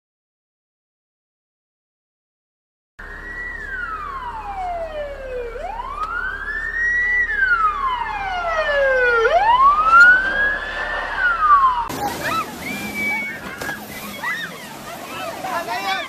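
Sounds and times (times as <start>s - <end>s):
emergency siren wailing: 3.0s - 16.0s.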